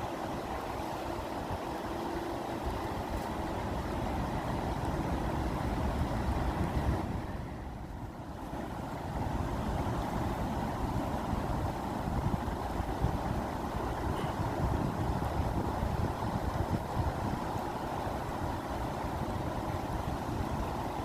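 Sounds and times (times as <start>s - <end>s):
rushing water churning: 0.0s - 21.0s.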